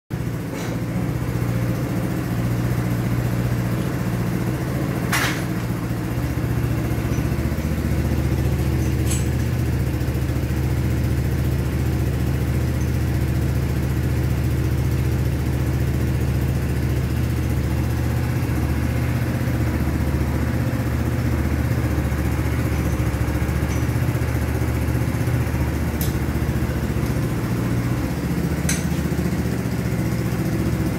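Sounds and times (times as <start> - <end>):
engine idling: 0.2 - 30.9.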